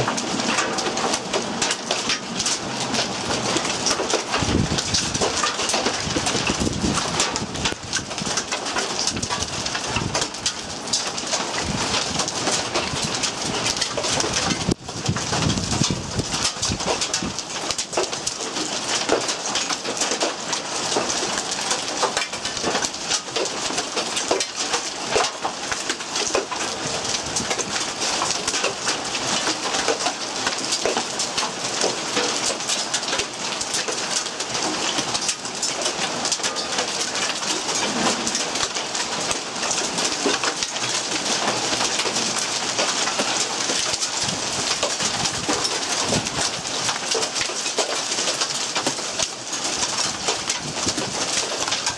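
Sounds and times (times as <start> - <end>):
hailstones striking surfaces: 0.0 - 51.9.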